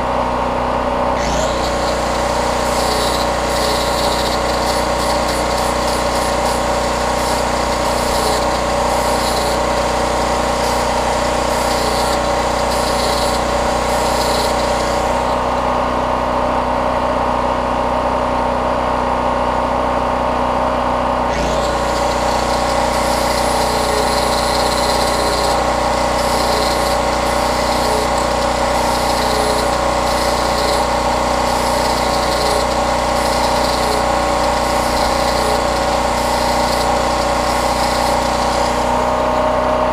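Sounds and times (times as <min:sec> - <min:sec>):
portable generator engine running: 0:00.0 - 0:39.9
angle grinder grinding steel: 0:01.2 - 0:16.2, 0:21.3 - 0:39.9.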